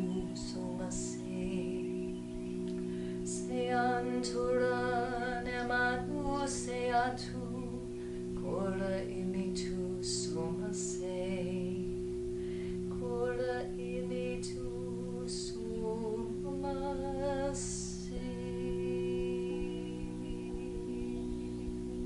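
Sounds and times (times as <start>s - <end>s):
singing bowls ringing drone: 0.0s - 22.0s
woman chanting softly: 0.0s - 22.0s.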